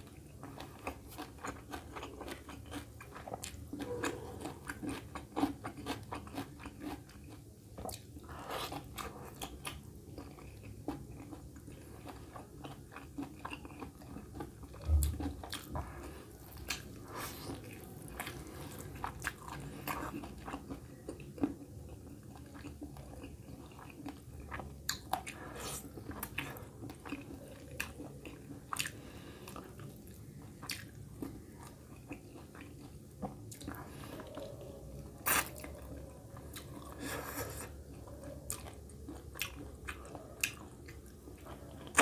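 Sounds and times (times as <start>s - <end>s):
person chewing food: 0.0s - 42.0s.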